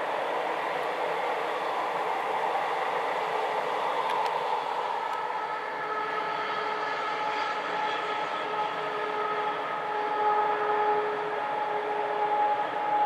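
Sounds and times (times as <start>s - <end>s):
multi-tone locomotive whine: 0.0s - 13.0s
wheels rushing on rail: 0.0s - 13.0s.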